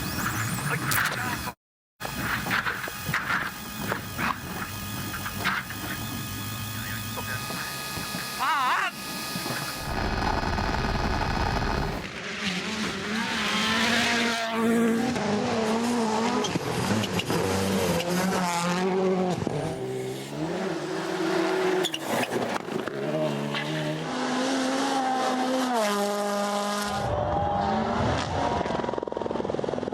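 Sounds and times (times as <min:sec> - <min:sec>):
rally car engines at full throttle: 0:00.0 - 0:29.9.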